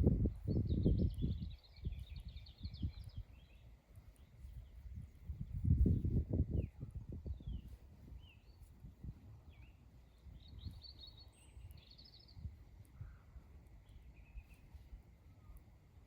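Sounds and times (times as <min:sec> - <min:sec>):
songbirds chirping and trilling: 0:00.0 - 0:16.0
wind rumble on microphone: 0:00.0 - 0:16.0.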